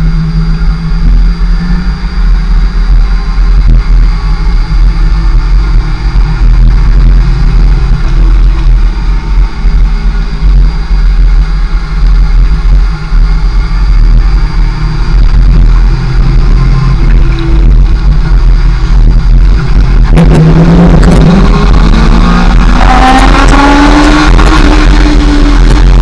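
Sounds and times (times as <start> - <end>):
motorcycle engine running: 0.0 - 26.0
wind rumble on microphone: 0.0 - 26.0.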